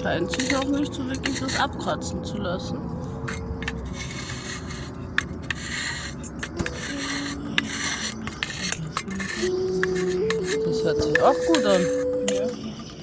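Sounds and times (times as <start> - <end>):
scraping on clay: 0.0 - 2.0, 3.3 - 13.0
ocarina notes: 0.0 - 5.1, 6.6 - 12.9.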